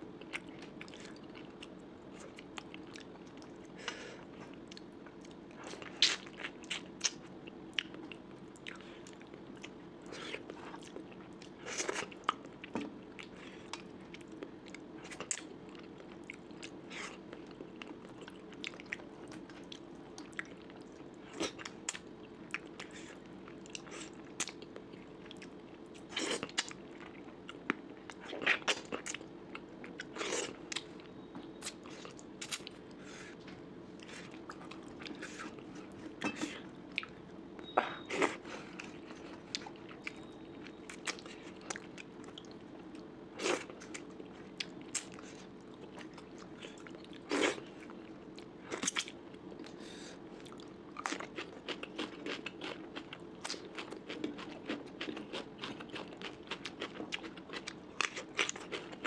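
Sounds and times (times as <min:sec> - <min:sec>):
steady low hum: 0:00.0 - 0:59.0
chewing with crunches: 0:00.1 - 0:59.0.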